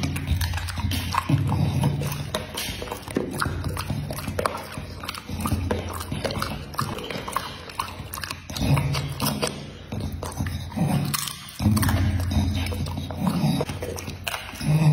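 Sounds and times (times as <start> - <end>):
dog chewing fruit: 0.0 - 14.9
wet mouth clicks and lip smacking: 0.0 - 14.9.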